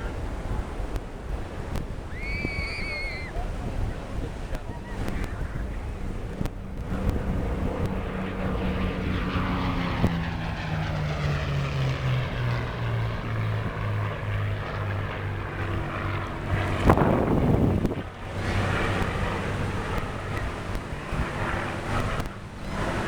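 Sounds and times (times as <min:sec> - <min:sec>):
propeller plane engine passing: 0:00.0 - 0:23.0.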